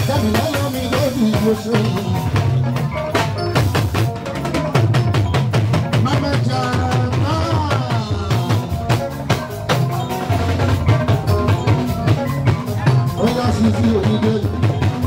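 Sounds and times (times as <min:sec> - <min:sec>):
dance music with drum beat: 0:00.0 - 0:15.0
heavy bass line: 0:00.0 - 0:15.0
sung melody: 0:00.0 - 0:15.0.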